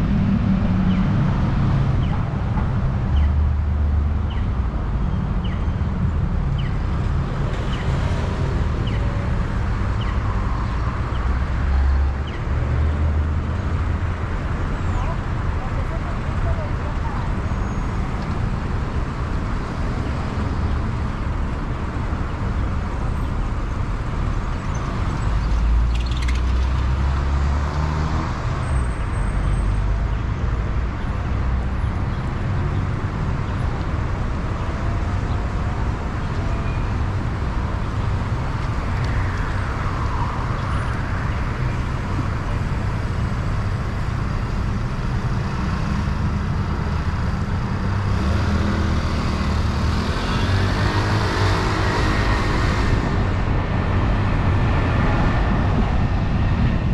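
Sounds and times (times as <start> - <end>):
car road and engine noise: 0.0 - 56.9.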